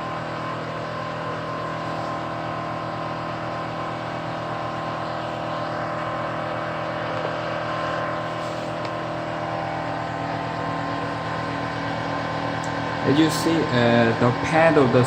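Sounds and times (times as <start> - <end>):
machine hum with blower flutter: 0.0 - 15.0.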